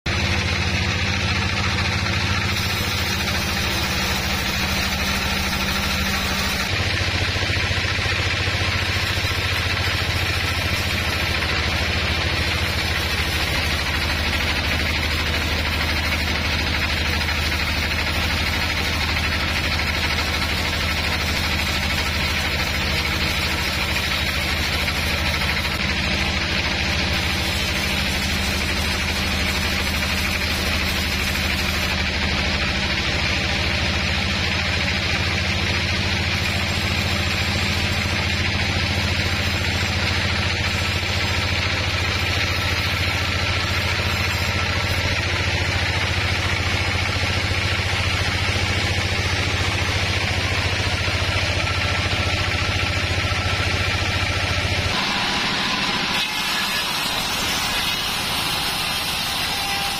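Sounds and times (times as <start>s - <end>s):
band saw blade sawing log: 0.1s - 59.9s
motor hum: 0.1s - 59.9s.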